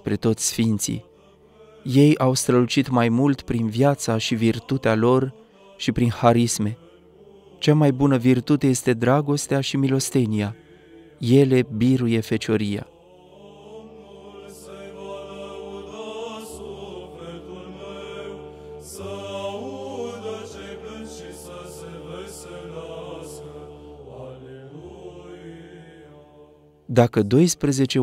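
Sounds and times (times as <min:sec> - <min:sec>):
slow vocal chant: 0:00.0 - 0:26.9
steady held drone: 0:00.0 - 0:26.9.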